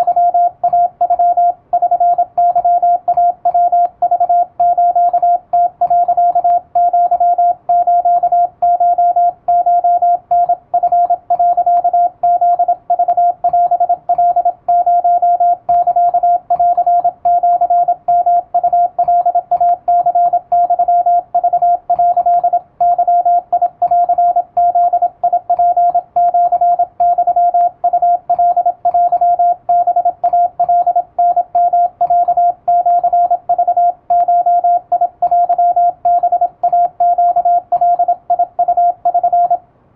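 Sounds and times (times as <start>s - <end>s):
morse code tone: 0.0s - 39.6s.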